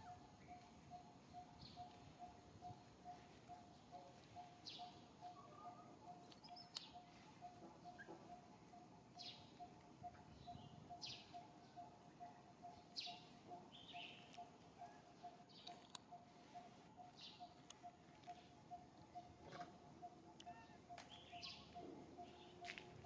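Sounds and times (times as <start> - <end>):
birds high chirps: 0.0 - 23.0.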